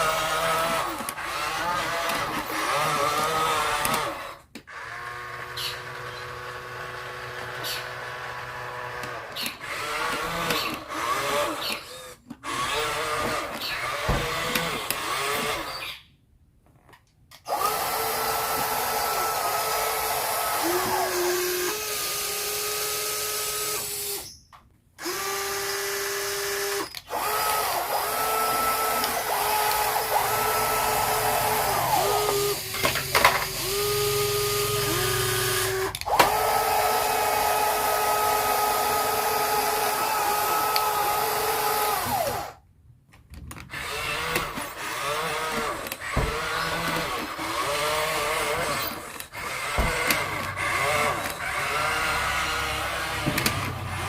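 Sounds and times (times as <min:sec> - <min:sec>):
small electric motors whining: 0:00.0 - 0:16.1, 0:17.4 - 0:42.6, 0:43.5 - 0:54.0.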